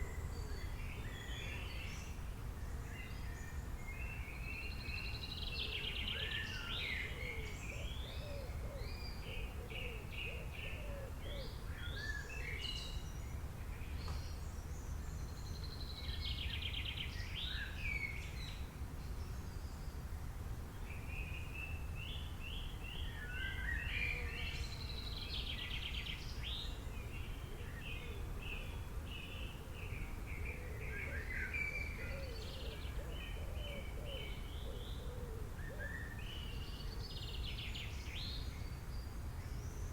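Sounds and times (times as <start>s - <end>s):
low background noise: 0.0s - 39.9s
songbirds singing: 0.0s - 39.9s.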